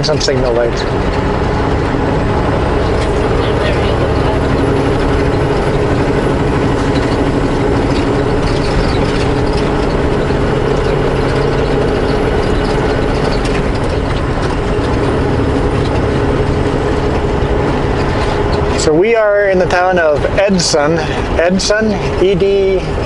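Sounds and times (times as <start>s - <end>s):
road noise: 0.0s - 23.0s
truck diesel engine drone: 0.0s - 23.0s.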